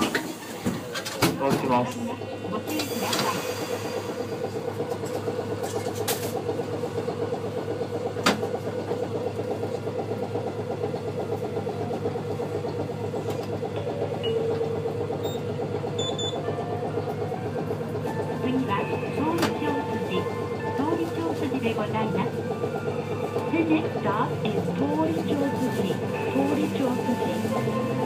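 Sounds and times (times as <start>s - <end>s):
streetcar mechanical hum: 0.0s - 28.0s.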